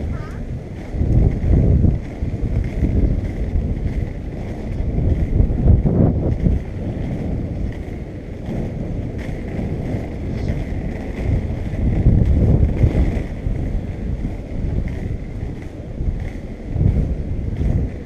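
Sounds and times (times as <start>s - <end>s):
skate wheels rolling on asphalt: 0.0s - 18.0s
wind buffeting microphone: 0.0s - 18.0s.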